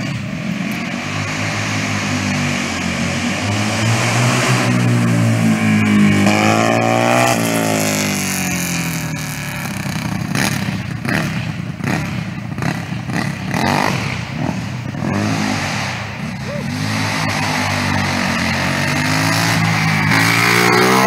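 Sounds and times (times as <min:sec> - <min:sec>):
go-kart engine driving past: 0:00.0 - 0:21.0.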